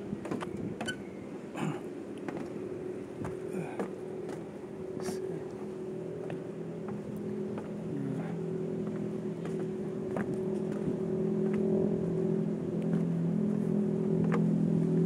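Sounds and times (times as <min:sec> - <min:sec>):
engine humming: 0:00.0 - 0:15.0
footsteps on wooden boardwalk: 0:00.2 - 0:01.0, 0:01.6 - 0:14.6.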